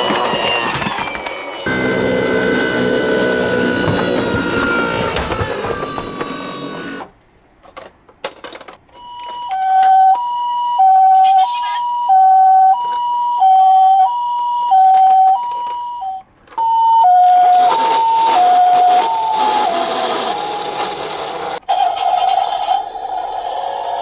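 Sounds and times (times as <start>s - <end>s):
toy ambulance two-tone siren: 0.0s - 7.0s, 9.0s - 21.9s.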